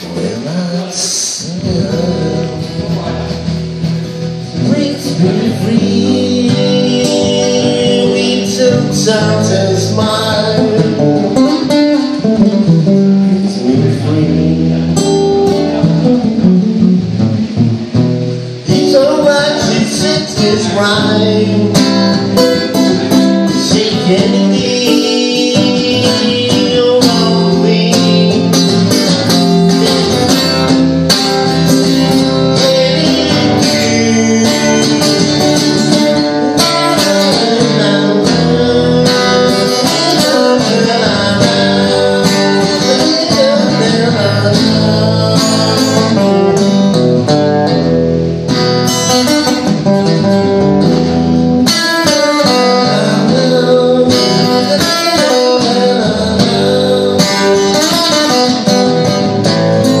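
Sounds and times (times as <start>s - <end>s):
acoustic guitar playing: 0.0s - 60.0s.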